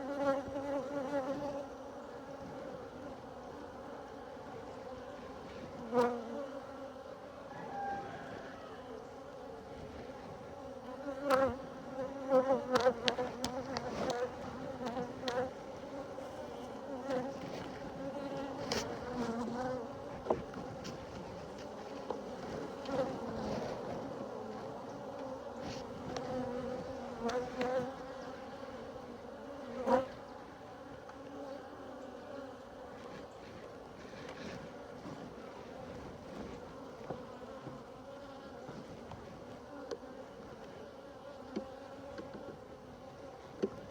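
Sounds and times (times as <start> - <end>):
honeybees buzzing: 0.0 - 43.9.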